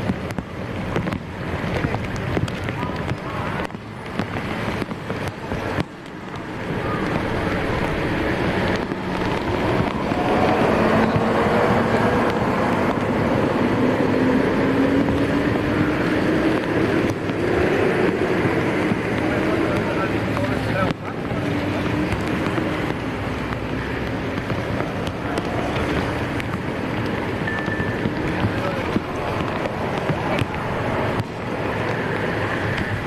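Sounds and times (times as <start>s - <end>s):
engine running: 0.0s - 33.0s
steady rushing noise: 0.0s - 33.0s.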